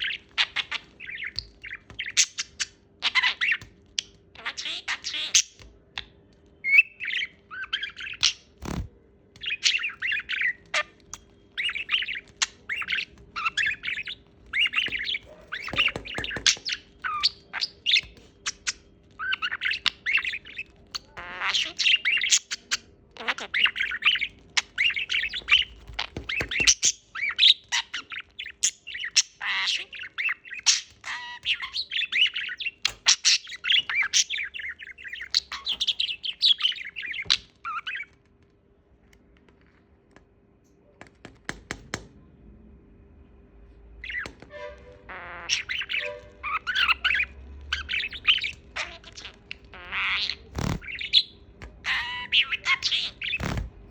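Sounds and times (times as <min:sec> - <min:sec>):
parrot chattering and squawking: 0:00.0 - 0:05.6, 0:09.4 - 0:38.1, 0:44.0 - 0:53.9.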